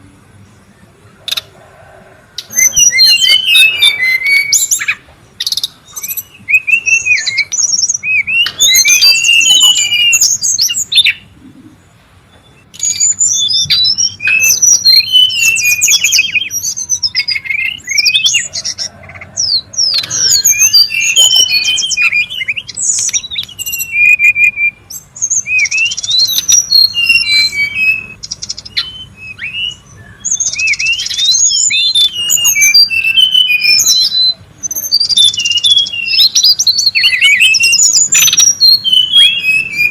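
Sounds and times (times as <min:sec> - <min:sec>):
bird singing whistles and trills: 0:01.1 - 0:11.3, 0:12.3 - 0:39.9.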